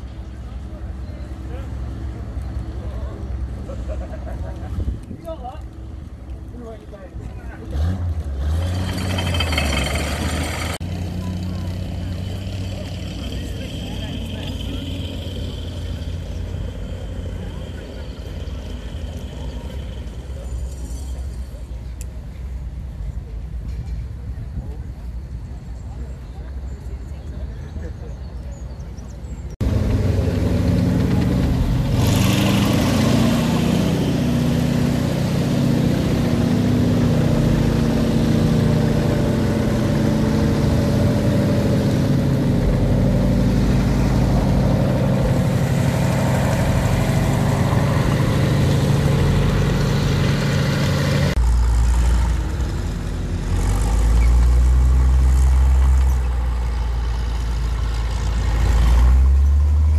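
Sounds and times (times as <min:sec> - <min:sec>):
tank engine droning: 0:00.0 - 0:23.6, 0:29.6 - 0:59.9
tracked vehicle rumbling past: 0:05.7 - 0:26.0, 0:29.0 - 0:59.9.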